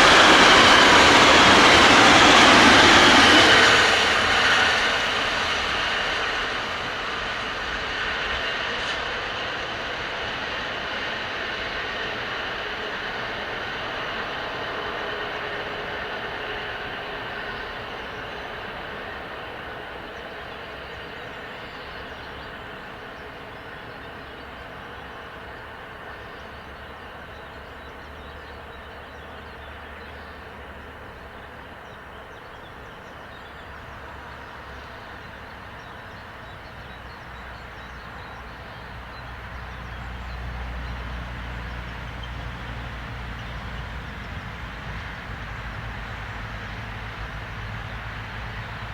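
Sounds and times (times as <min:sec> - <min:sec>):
train wheels rattling on rails: 0:00.0 - 0:48.9.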